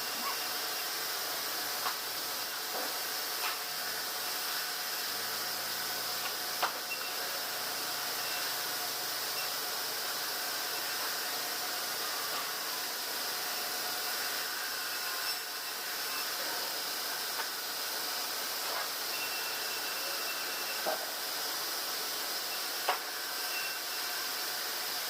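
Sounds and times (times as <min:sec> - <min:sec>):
sawmill machinery hissing: 0:00.0 - 0:25.0.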